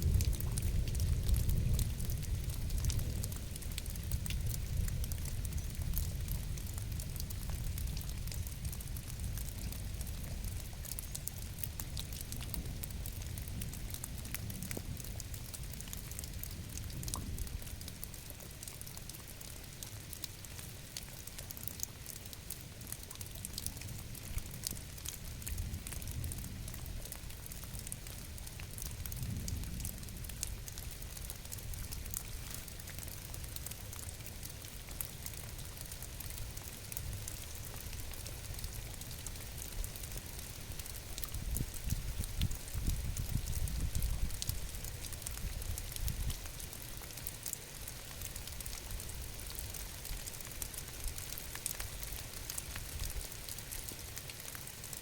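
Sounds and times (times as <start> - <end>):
low steady rain rumble: 0.0 - 55.0
rain drops pattering: 0.0 - 55.0.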